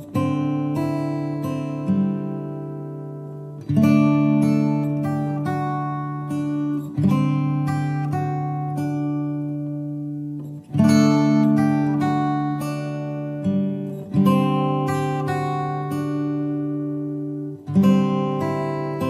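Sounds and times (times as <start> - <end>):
acoustic guitar chords strummed: 0.0 - 19.0.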